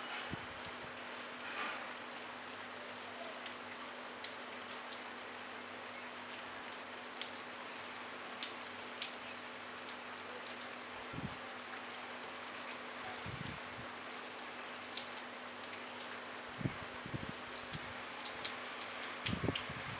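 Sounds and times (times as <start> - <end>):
light rain hissing: 0.0 - 19.9
raindrops ticking: 0.1 - 13.0, 13.6 - 19.9.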